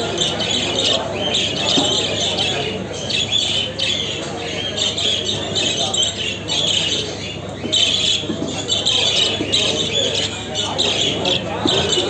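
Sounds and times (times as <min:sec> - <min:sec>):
budgerigars calling: 0:00.0 - 0:12.0.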